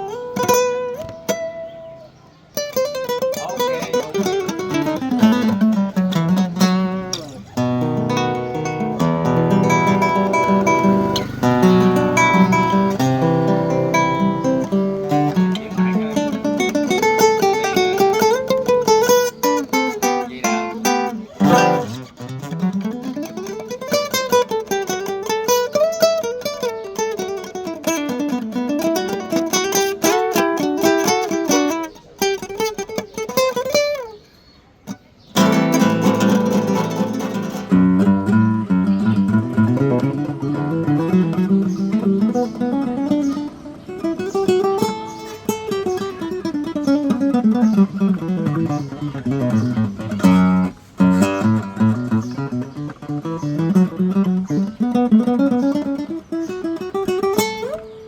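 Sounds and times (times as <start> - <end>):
classical guitar plucked notes: 0.0 - 58.0.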